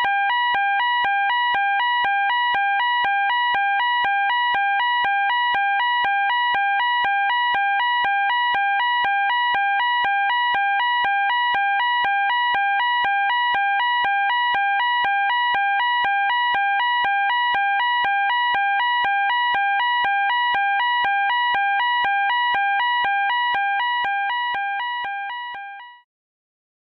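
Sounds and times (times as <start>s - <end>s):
fire alarm two-tone warble: 0.0s - 26.1s.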